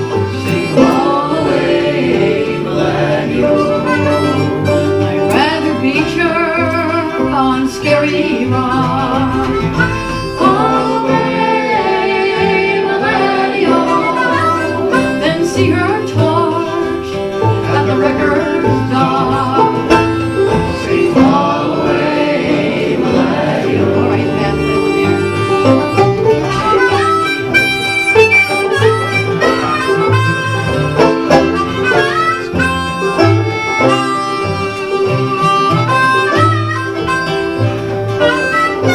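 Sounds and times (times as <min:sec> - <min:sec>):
acoustic folk band playing: 0:00.0 - 0:38.9.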